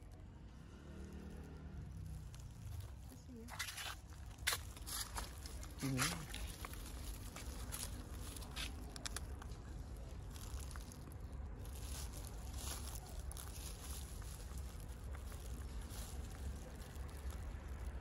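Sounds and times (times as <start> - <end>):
steady low rumble: 1.6 - 18.0.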